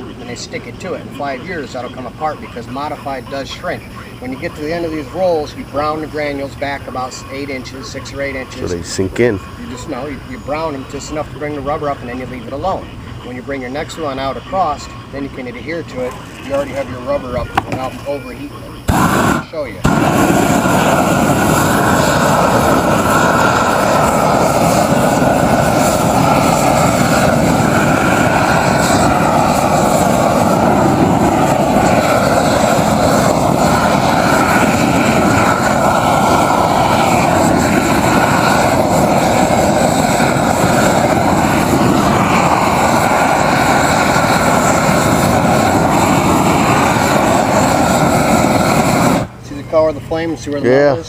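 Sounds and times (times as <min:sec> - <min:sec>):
roofing torch burning: 0:00.0 - 0:51.0.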